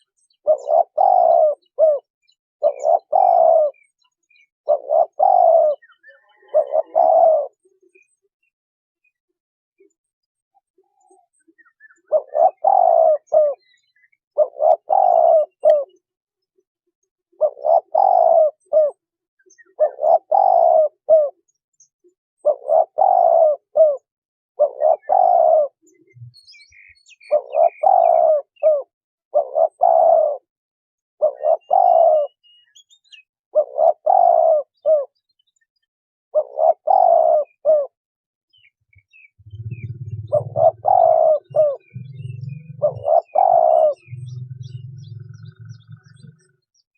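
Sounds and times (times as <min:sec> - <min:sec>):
dove cooing: 0:00.4 - 0:03.9, 0:04.6 - 0:08.0, 0:10.7 - 0:16.0, 0:17.3 - 0:21.4, 0:22.4 - 0:30.5, 0:31.2 - 0:32.5, 0:33.6 - 0:35.2, 0:36.4 - 0:46.8.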